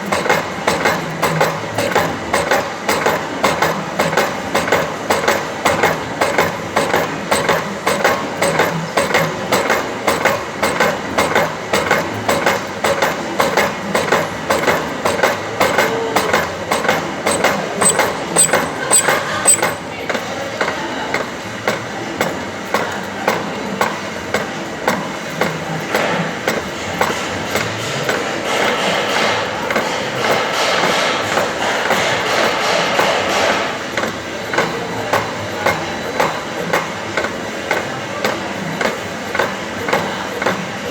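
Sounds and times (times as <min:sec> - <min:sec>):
slotting machine ram knocking: 0:00.0 - 0:40.9.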